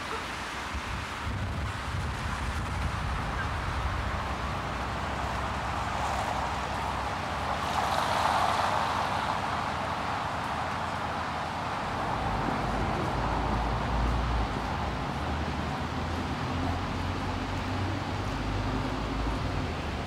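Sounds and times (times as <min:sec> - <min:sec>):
car passing on wet road: 0:00.0 - 0:20.0
steady rain hiss: 0:00.0 - 0:20.0.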